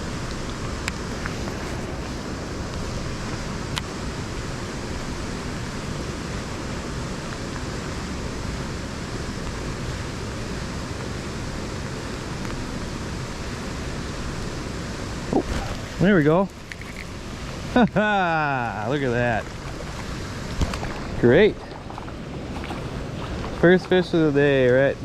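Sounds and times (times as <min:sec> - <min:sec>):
wind and rain hiss: 0:00.0 - 0:25.0.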